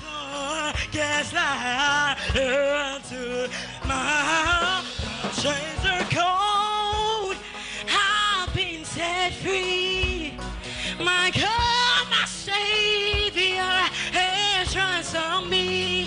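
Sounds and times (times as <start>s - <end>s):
backing music with drum beat: 0.0s - 16.0s
person singing with vibrato: 0.0s - 16.0s.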